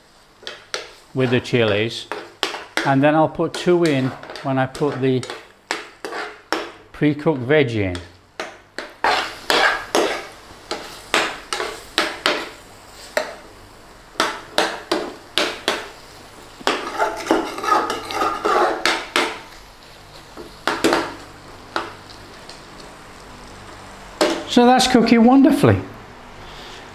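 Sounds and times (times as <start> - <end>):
utensil scraping a cooking pan: 0.0 - 24.6.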